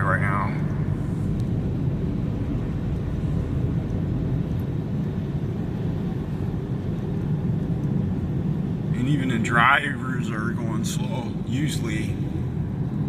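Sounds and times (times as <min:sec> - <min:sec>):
car road noise from inside cabin: 0:00.0 - 0:13.0.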